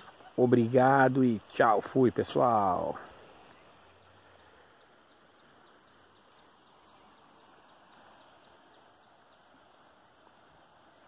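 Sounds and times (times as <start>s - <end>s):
faint river rushing: 0.0s - 11.0s.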